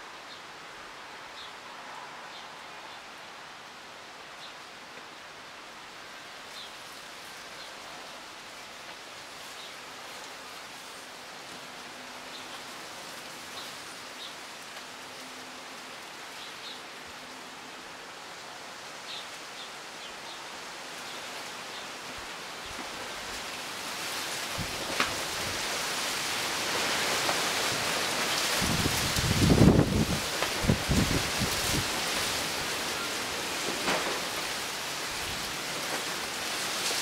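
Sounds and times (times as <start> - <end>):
wind rustling foliage: 0.0 - 37.0.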